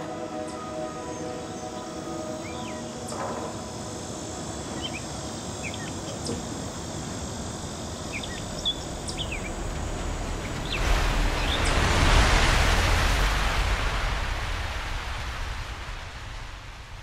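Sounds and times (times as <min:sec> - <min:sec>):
broad rush of noise: 0:00.0 - 0:17.0.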